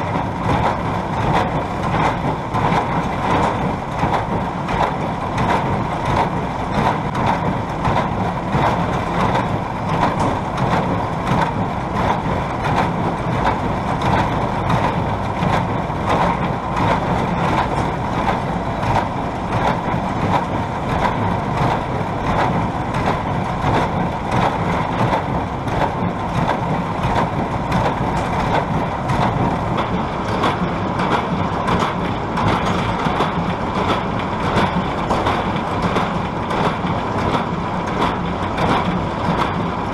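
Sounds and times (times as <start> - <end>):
tractor running: 0.0 - 39.9.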